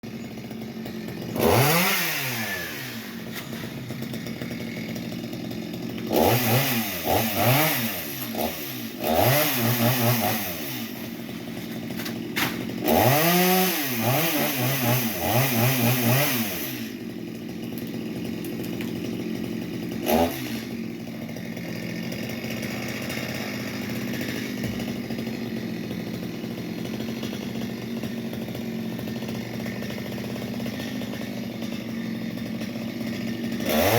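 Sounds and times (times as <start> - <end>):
chainsaw engine idling and revving: 0.0 - 33.9.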